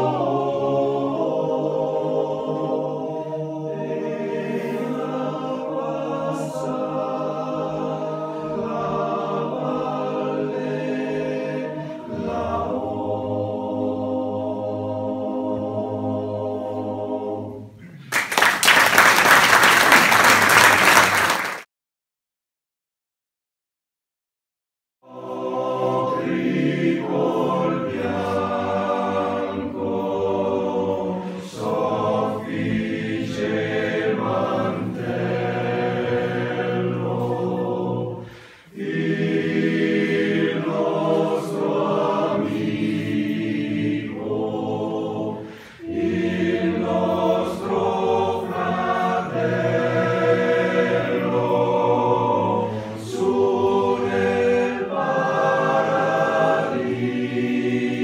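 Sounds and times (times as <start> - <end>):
male choir singing a cappella: 0.0 - 17.8, 25.0 - 58.0.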